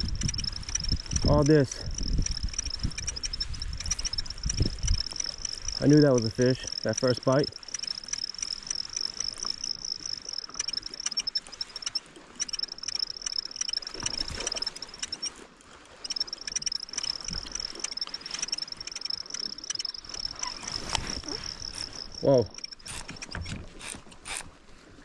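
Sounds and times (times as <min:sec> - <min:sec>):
fishing reel clicking whir: 0:00.0 - 0:24.5
water sloshing against kayak: 0:00.0 - 0:25.0.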